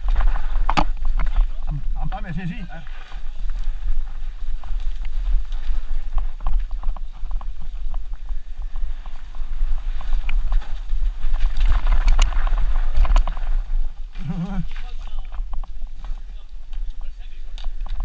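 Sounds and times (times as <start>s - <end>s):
tyres crunching on dirt and leaves: 0.0s - 17.8s
crackling clicks and scraping: 0.0s - 18.0s
mountain bike clattering and rattling: 0.0s - 18.0s
wind rumble on microphone: 0.0s - 18.0s.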